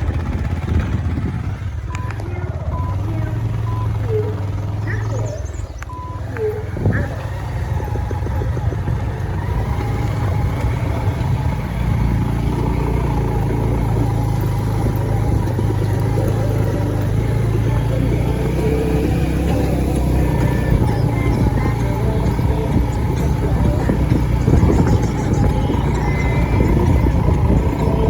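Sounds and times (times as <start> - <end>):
road noise: 0.0 - 28.0
vehicle engine rumble: 0.0 - 28.0.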